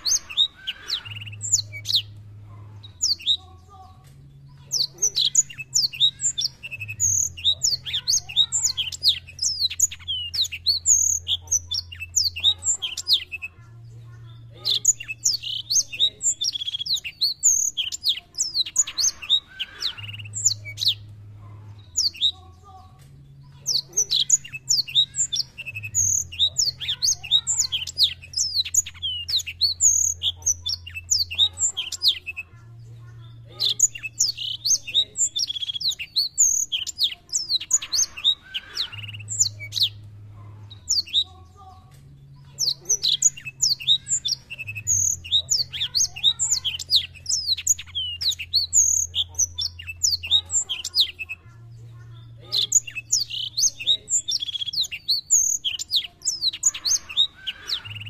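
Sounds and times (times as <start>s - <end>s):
canary twittering song: 0.0s - 58.0s.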